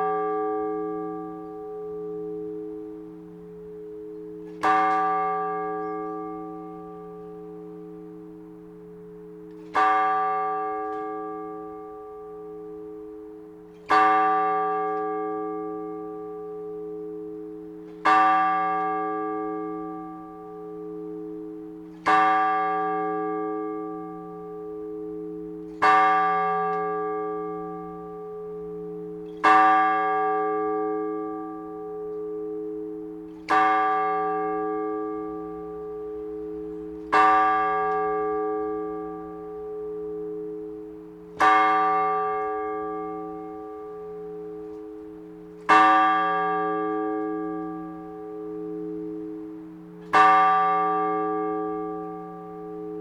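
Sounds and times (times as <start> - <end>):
large church bell ringing: 0.0 - 53.0.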